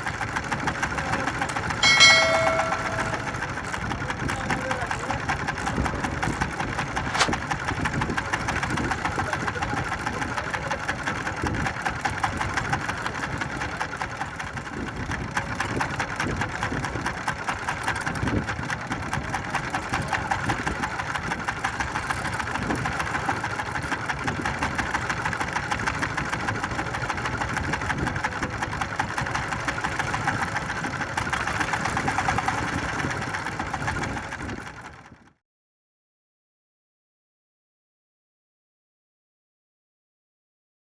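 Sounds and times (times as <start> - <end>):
boat engine knocking: 0.0 - 35.1.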